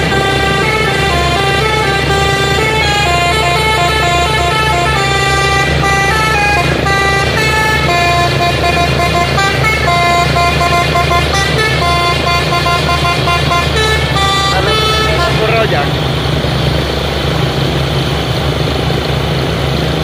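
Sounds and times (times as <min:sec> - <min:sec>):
truck air horn melody: 0:00.0 - 0:16.0
truck engine rumble: 0:00.0 - 0:20.0.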